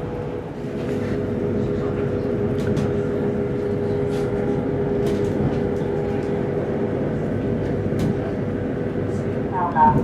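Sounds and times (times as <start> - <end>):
train cabin rumble and hum: 0.0 - 10.0.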